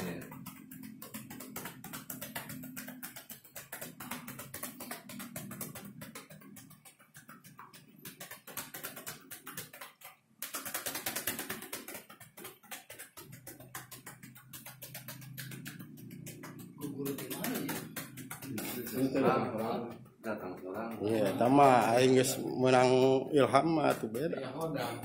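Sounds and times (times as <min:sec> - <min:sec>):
hands chopping on a back: 0:00.0 - 0:22.2.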